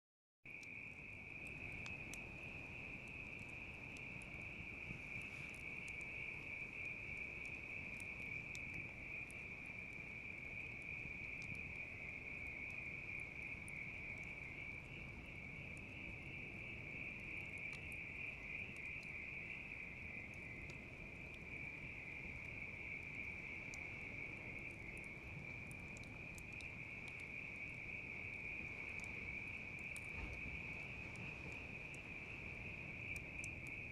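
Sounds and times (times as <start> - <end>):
crickets trilling: 0.5 - 33.9
wood fire crackling: 0.5 - 33.9.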